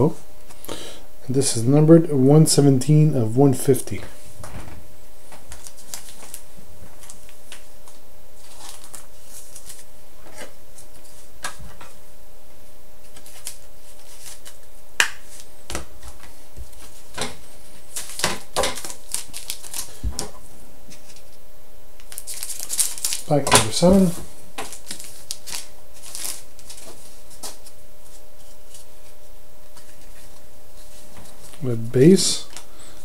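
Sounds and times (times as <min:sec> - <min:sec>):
faint hiss and hum: 0:00.0 - 0:33.0.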